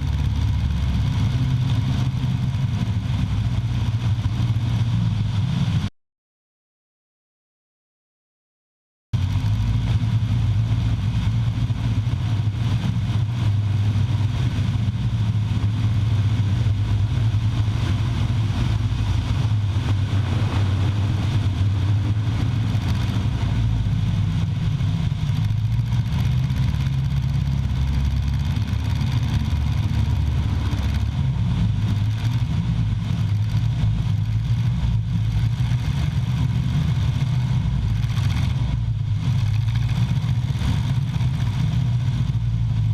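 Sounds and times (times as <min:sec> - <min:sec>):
engine running steadily: 0:00.0 - 0:05.9, 0:09.2 - 0:42.9.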